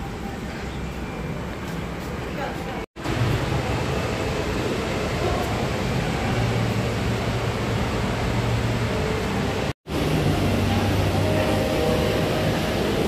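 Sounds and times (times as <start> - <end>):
machinery hum with rushing hiss: 0.0 - 13.0.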